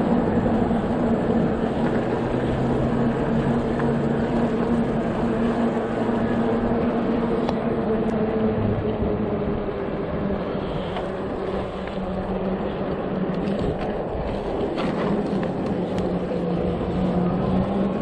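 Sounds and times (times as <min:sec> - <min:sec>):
low motor hum: 0:00.0 - 0:18.0
wind rushing over microphone: 0:00.0 - 0:18.0.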